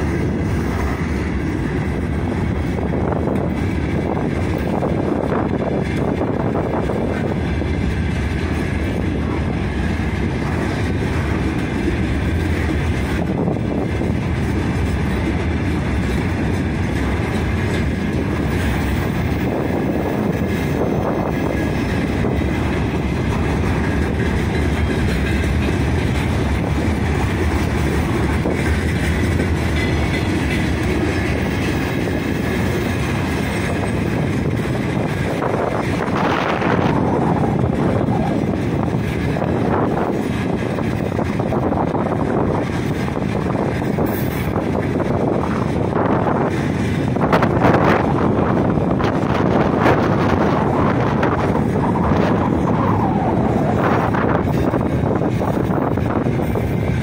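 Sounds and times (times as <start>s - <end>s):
freight train rumbling past: 0.0s - 57.0s
wheels clacking over rails: 0.0s - 57.0s.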